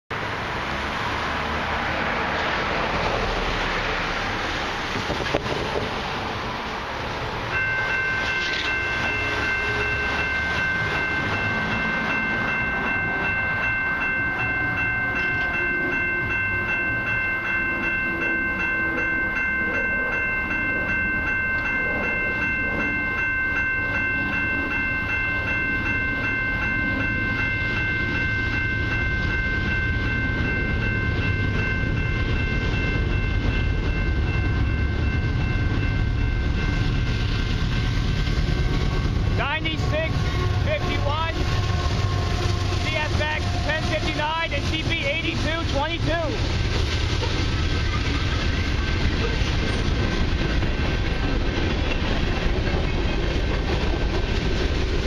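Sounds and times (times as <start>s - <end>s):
train rumble: 0.1s - 55.0s
level crossing warning bells: 0.2s - 55.0s.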